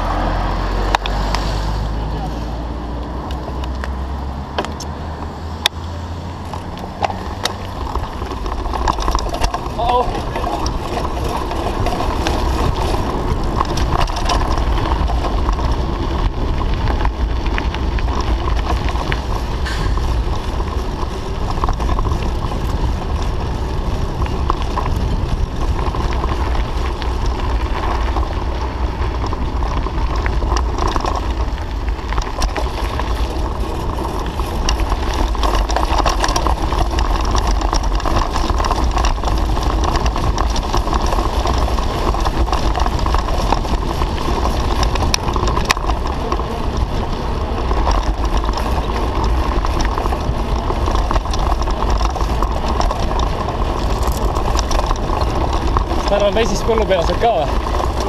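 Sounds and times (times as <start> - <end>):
bicycle tyres rumbling on road: 0.0 - 58.0
wind rush on microphone: 0.0 - 58.0
bike clicks and rattles: 3.0 - 5.8, 6.4 - 58.0.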